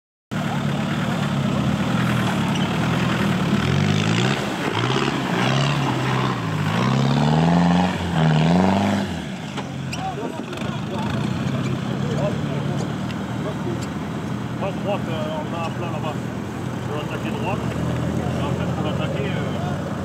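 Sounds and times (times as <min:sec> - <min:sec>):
engine revving: 0:00.3 - 0:20.0.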